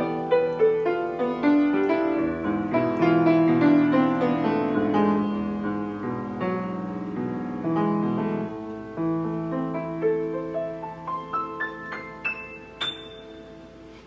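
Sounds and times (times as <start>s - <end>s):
piano playing: 0.0s - 14.0s.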